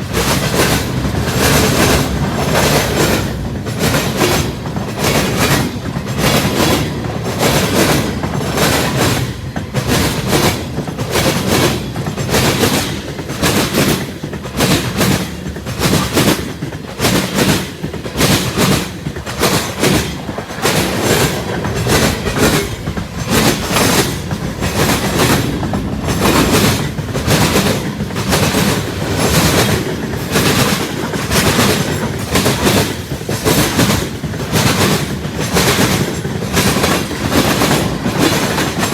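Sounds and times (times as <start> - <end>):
freight train rumble: 0.0 - 38.9
train wheels clacking over rail joints: 0.0 - 38.9.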